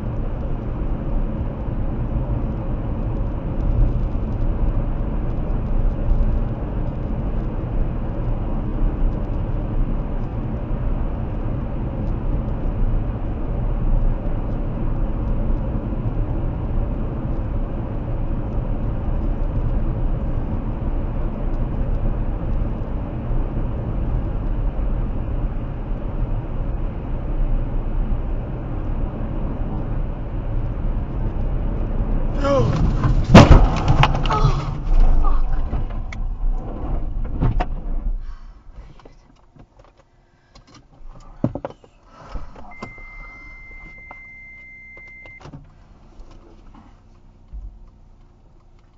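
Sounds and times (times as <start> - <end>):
car road and tyre noise: 0.0 - 48.9.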